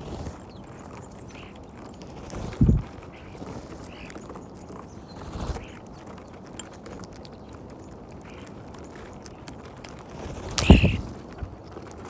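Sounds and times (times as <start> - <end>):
birds pecking and rustling: 0.0 - 12.0.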